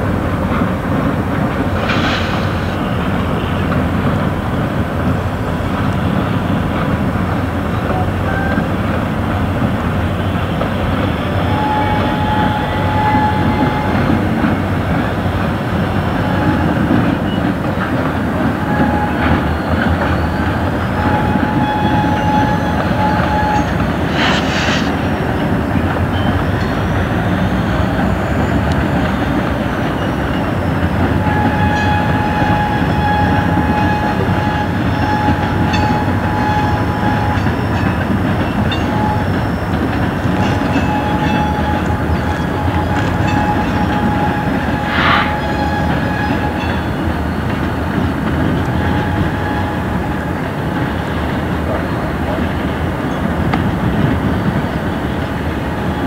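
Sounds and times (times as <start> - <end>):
rumble of locomotives and freight cars: 0.0 - 56.0.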